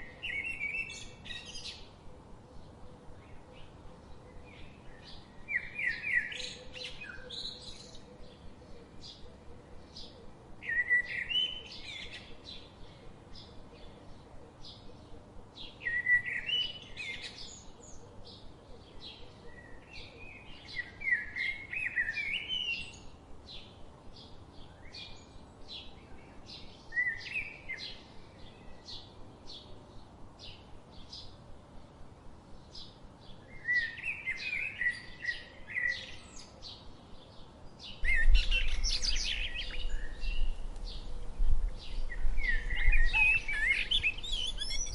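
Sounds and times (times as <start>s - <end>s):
songbirds warbling: 0.0s - 44.9s.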